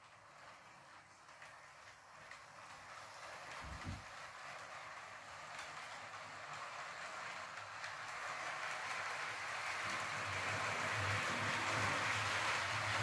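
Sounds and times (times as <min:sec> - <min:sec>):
model train motor whirring: 0:00.0 - 0:13.0.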